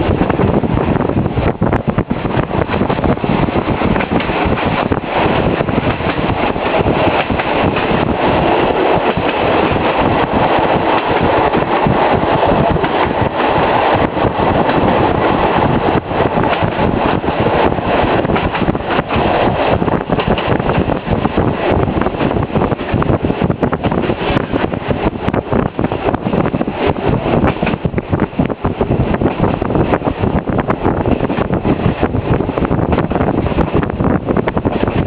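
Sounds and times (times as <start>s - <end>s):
moving train rushing: 0.0s - 35.0s
wind buffeting microphone: 0.0s - 35.0s.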